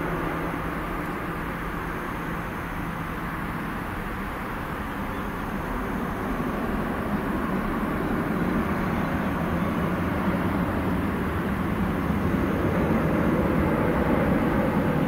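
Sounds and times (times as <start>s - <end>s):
jet engines rumbling at takeoff: 0.0s - 15.0s.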